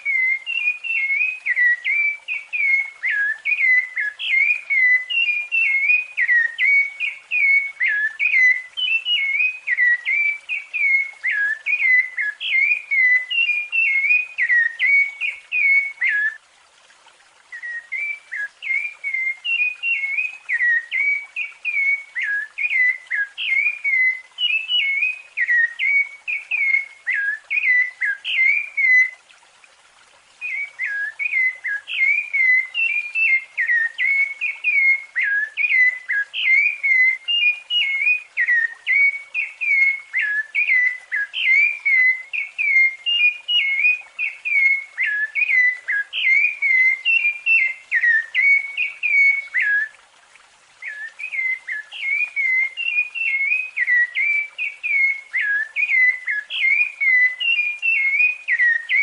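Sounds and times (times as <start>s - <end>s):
thrush singing whistled phrases: 0.0s - 16.4s, 17.5s - 29.2s, 30.4s - 50.0s, 50.8s - 59.0s.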